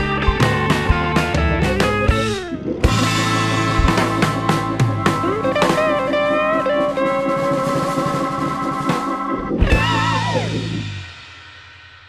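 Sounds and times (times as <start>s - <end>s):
rock music with guitar lead: 0.0s - 11.5s.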